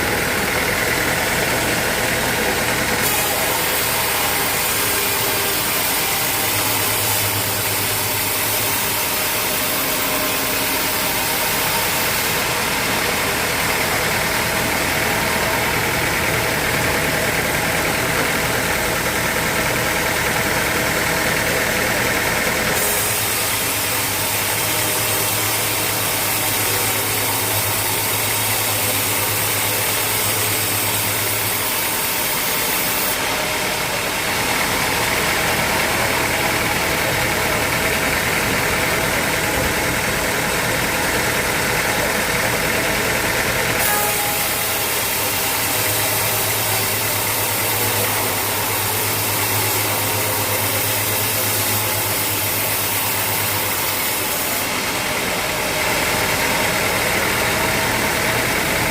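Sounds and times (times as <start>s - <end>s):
bright machine whine: 0.0s - 58.9s
sawmill machinery running: 0.0s - 58.9s.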